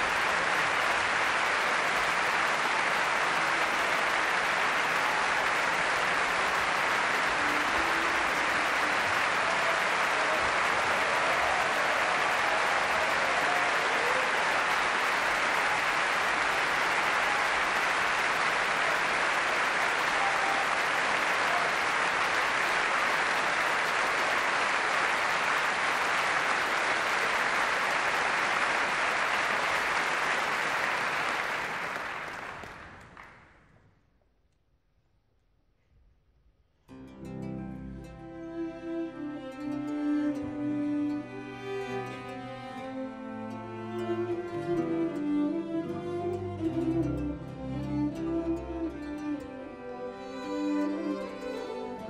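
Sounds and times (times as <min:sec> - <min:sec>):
audience applauding: 0:00.0 - 0:33.7, 0:39.8 - 0:52.0.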